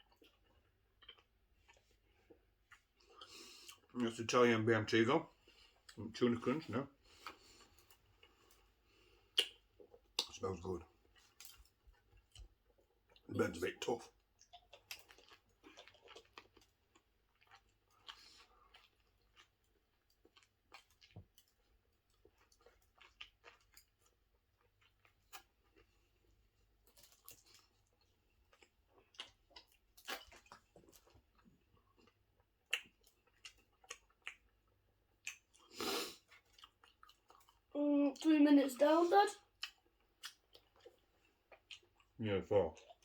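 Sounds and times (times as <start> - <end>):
chewing sandwich: 0.0 - 4.4, 5.3 - 38.3, 39.4 - 43.0.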